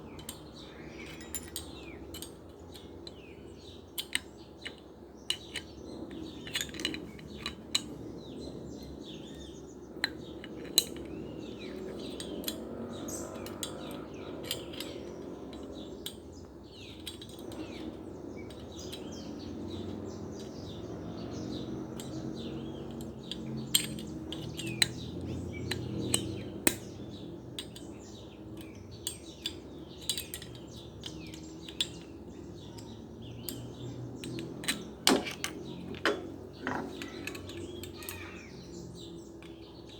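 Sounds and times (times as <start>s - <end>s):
small metal parts clinking: 0.0s - 39.9s.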